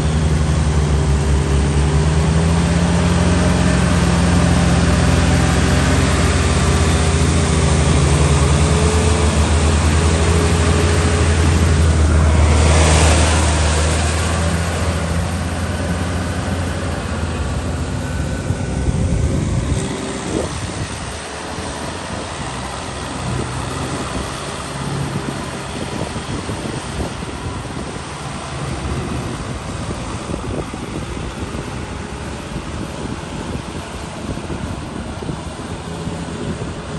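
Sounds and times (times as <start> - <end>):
tractor engine running: 0.0 - 36.9
wind noise: 0.0 - 36.9.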